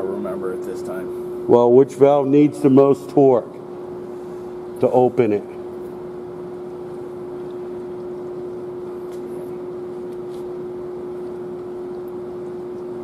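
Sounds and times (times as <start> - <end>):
constant humming tone: 0.0 - 13.0
workshop room drone: 0.0 - 13.0.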